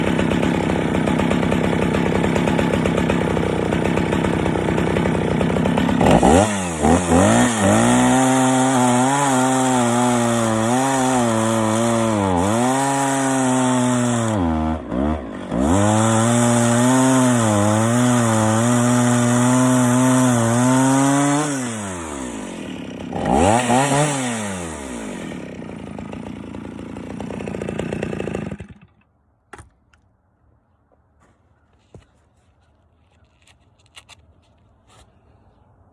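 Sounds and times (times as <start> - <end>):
chainsaw cutting wood: 0.0 - 29.8.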